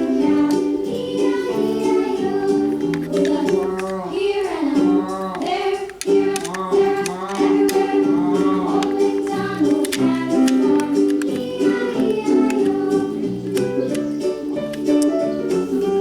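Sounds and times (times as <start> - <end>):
sung melody with plucked strings: 0.0 - 16.0.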